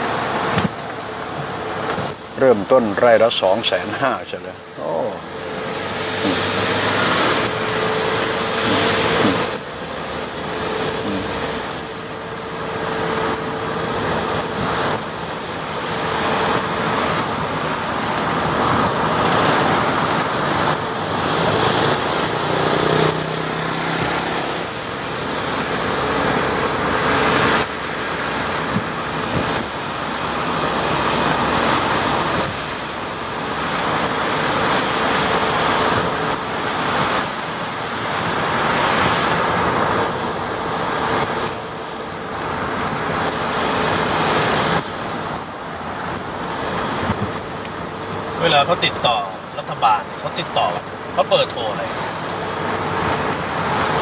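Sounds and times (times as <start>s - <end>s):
faint engine hum: 0.0s - 54.0s
tyres and wind rushing: 0.0s - 54.0s.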